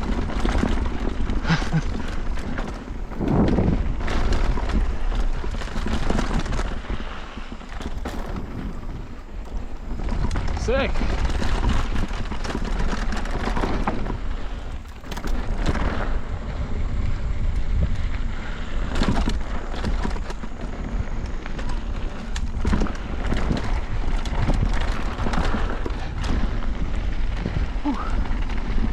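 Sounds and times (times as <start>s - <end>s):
bike rattles and knocks: 0.0s - 28.9s
wind buffeting microphone: 0.0s - 28.9s.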